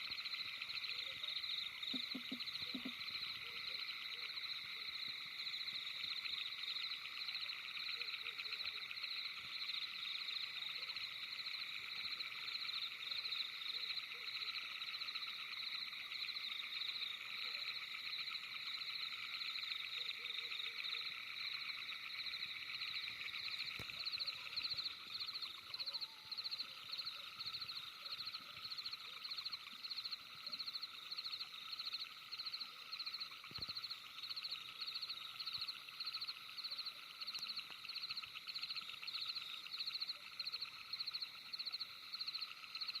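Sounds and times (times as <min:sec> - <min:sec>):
frogs trilling: 0:00.0 - 0:43.0.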